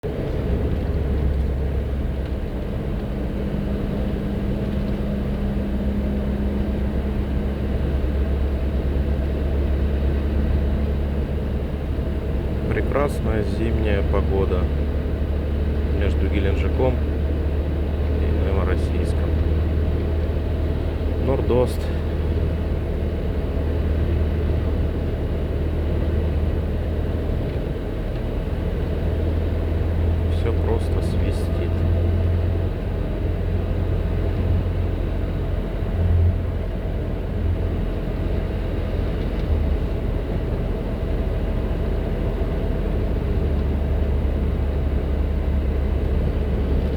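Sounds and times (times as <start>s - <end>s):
engine tyres and wind rumble: 0.0s - 46.9s.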